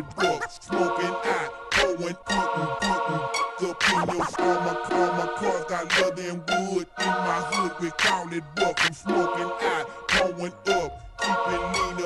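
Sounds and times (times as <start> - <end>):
rapping over a hip hop beat: 0.0 - 3.0, 3.6 - 12.0.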